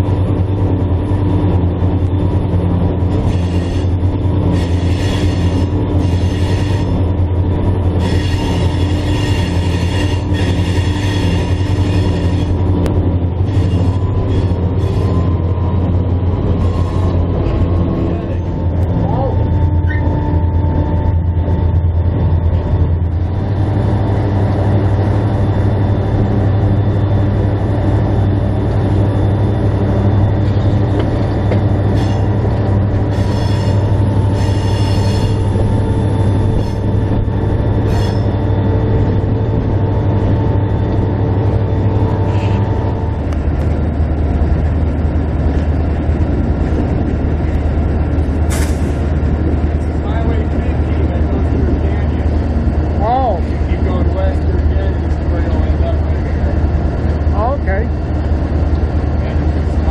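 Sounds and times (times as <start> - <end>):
diesel locomotive engine drone: 0.0 - 59.9
wheel flanges squealing on rails: 0.0 - 59.9.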